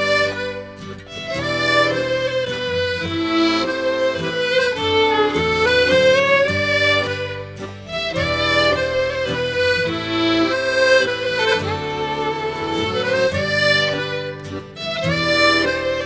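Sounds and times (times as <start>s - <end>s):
fiddle melody of quick notes: 0.0s - 16.0s
steady musical accompaniment: 0.0s - 16.0s.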